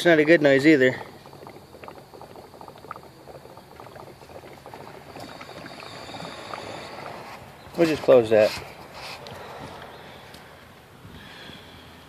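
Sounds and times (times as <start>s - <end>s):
coolant crackling and bubbling: 0.0s - 11.6s.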